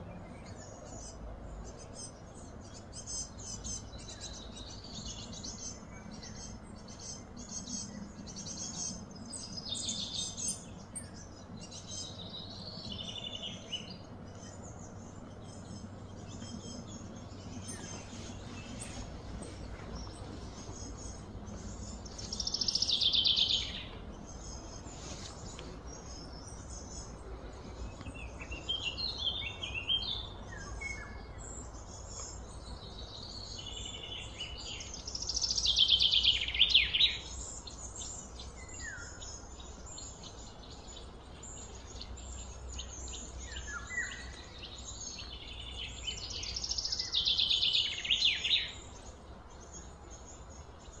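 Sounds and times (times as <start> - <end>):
bird chirps: 0.0 - 51.0
birds singing rapid notes: 0.0 - 51.0
low background hum: 0.0 - 51.0.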